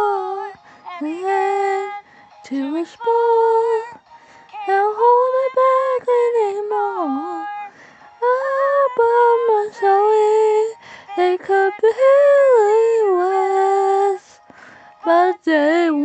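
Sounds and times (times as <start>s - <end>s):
person singing a melody: 0.0s - 4.0s, 4.6s - 14.4s, 15.0s - 16.0s.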